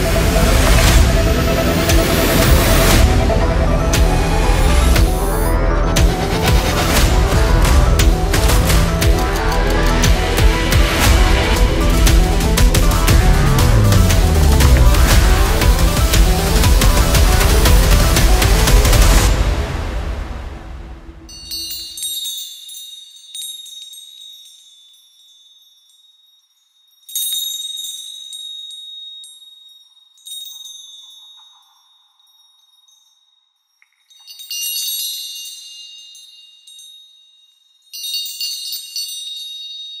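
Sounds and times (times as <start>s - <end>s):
high tinkling chimes: 0.0s - 18.7s, 21.2s - 40.0s.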